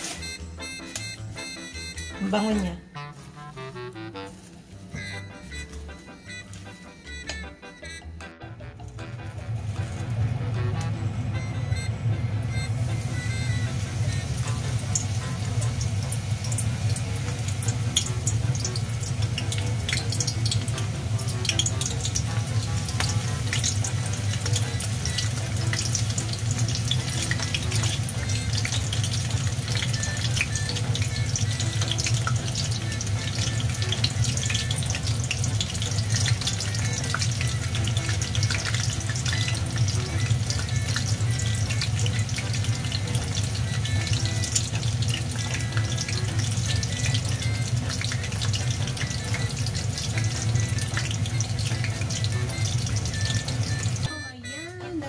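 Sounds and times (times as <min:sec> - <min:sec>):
tempura deep-frying in hot oil: 0:00.0 - 0:54.2.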